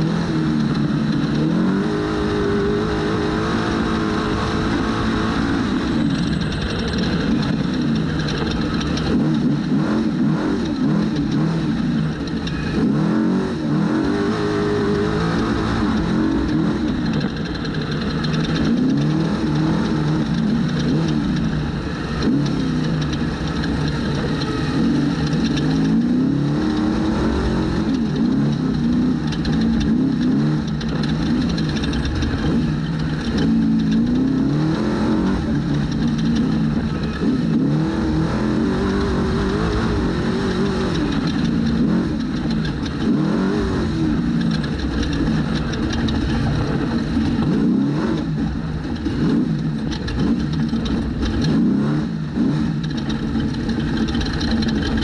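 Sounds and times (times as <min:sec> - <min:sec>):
steady noisy rush: 0:00.0 - 0:55.0
truck engine revving: 0:00.0 - 0:55.0.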